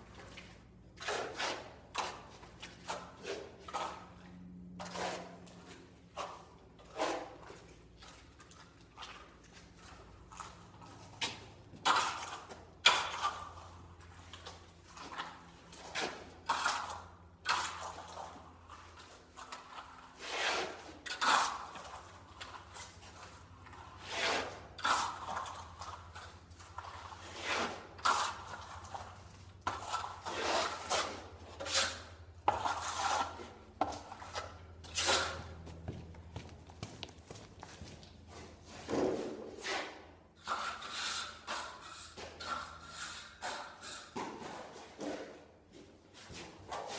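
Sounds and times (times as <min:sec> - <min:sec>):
trowel scraping plaster: 0:00.1 - 0:35.8, 0:38.4 - 0:45.4.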